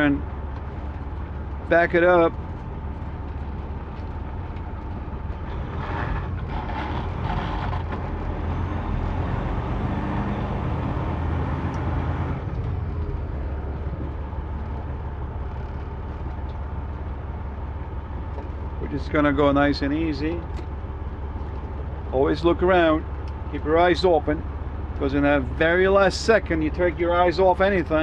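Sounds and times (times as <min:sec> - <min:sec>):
truck diesel engine running: 0:00.0 - 0:28.0.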